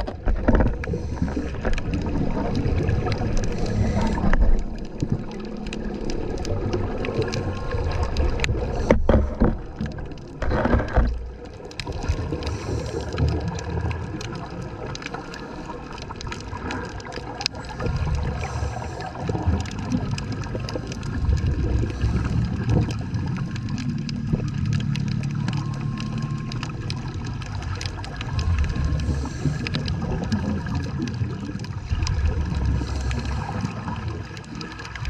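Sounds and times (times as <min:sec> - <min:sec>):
faint clicks: 0:00.0 - 0:35.0
low underwater rumble: 0:00.0 - 0:35.0
regulator bubbles gurgling: 0:00.0 - 0:35.0.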